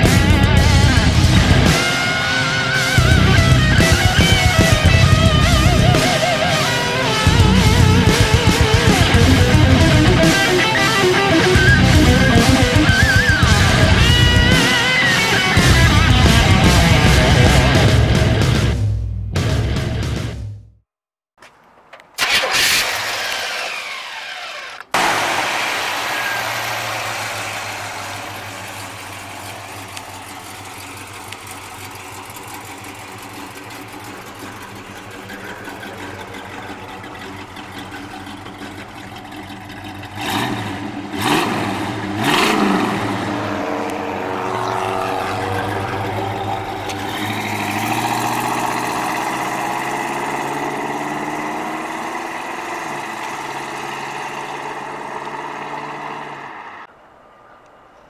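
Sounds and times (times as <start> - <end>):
car pulling away: 0.0 - 18.9, 21.7 - 56.9
car engine starting and idling: 0.0 - 20.8, 21.6 - 56.9.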